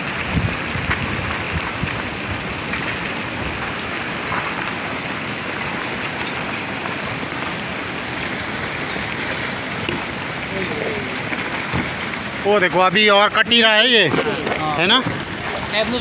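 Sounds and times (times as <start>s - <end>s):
rockfall debris rushing: 0.0s - 16.0s.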